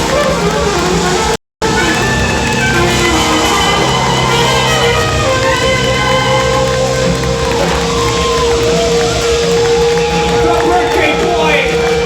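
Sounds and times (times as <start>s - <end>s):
live band playing loud music: 0.0s - 12.0s.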